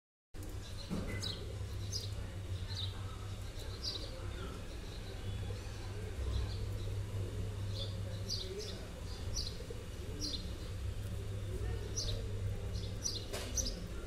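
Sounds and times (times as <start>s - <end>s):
birds chirping: 0.4s - 14.0s.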